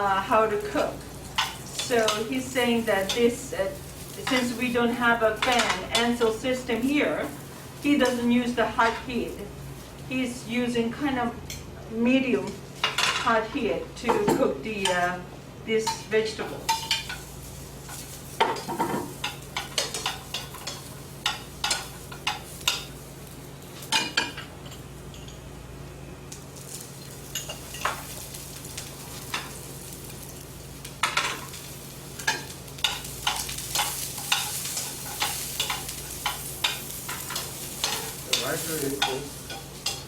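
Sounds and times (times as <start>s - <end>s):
vegetables sizzling in oil: 0.0s - 11.3s, 14.6s - 40.0s.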